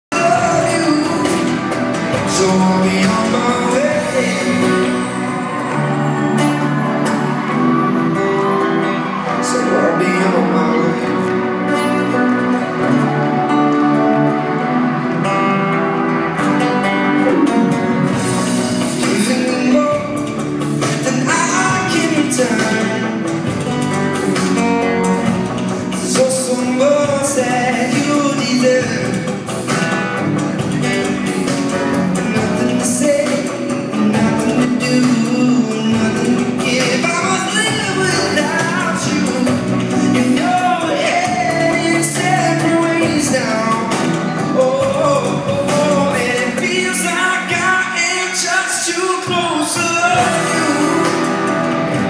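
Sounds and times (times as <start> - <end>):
man singing live: 0.1 - 52.0
strummed acoustic guitar: 0.1 - 52.0.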